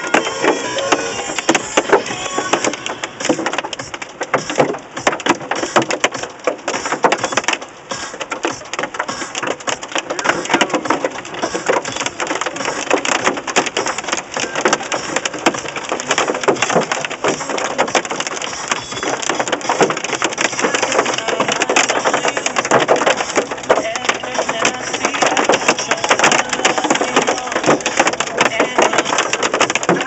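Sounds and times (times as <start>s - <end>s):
heavy rain on car roof: 0.0s - 30.0s.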